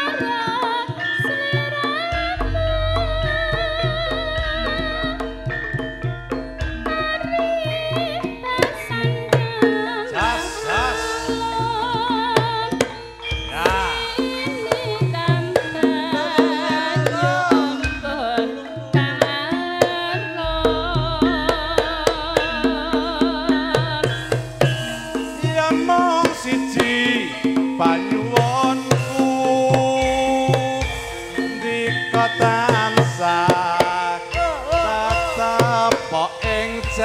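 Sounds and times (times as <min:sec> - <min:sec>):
gong and metallophone tones: 0:00.0 - 0:37.0
hand drum strokes: 0:02.0 - 0:37.0
wavering melody line: 0:02.2 - 0:36.5.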